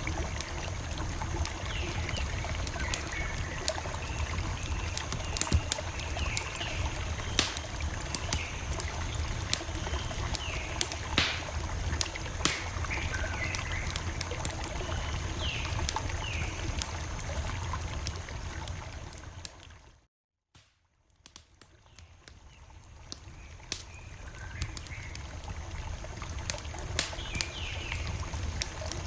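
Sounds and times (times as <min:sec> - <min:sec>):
campfire crackling and popping: 0:00.0 - 0:20.0, 0:20.6 - 0:29.0.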